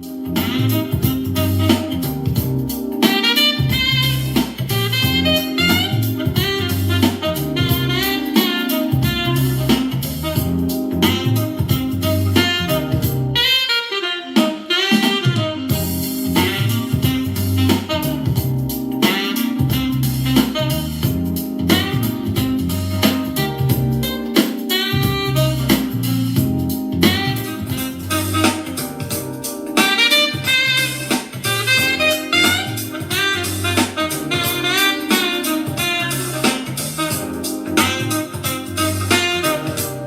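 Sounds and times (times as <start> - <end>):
pulsing bass line: 0.0 - 3.0, 3.6 - 8.2, 8.9 - 13.4, 15.7 - 19.0, 19.6 - 24.2, 24.9 - 40.0
jazzy saxophone music: 0.0 - 40.0.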